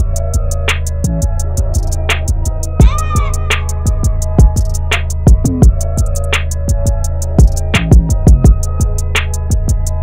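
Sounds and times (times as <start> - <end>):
deep bass kicks: 0.0 - 10.0
steady deep bass: 0.0 - 10.0.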